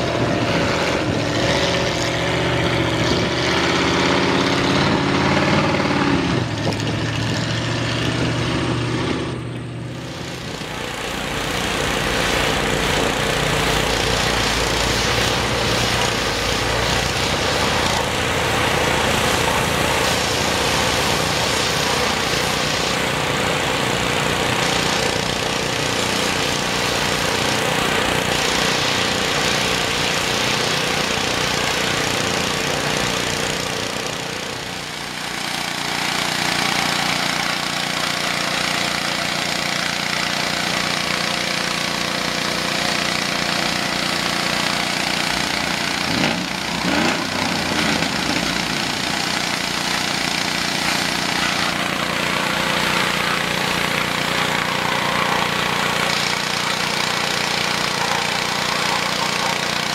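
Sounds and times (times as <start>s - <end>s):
pressure washer engine running: 0.0s - 59.9s
truck engine revving: 0.0s - 59.9s
water spray hissing: 9.9s - 59.9s.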